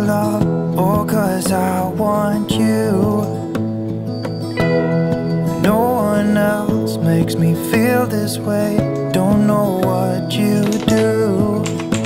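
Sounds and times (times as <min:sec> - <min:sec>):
background song: 0:00.0 - 0:12.0.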